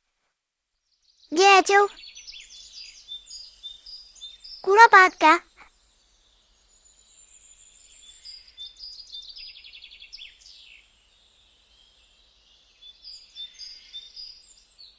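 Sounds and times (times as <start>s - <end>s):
songbirds chirping and trilling: 2.0s - 4.9s, 5.8s - 14.9s.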